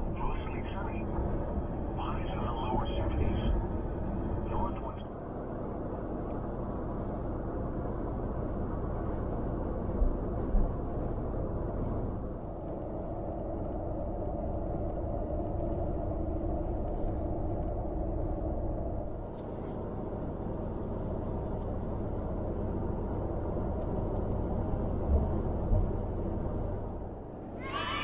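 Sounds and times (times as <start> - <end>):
vehicle engine and road noise: 0.0 - 27.9.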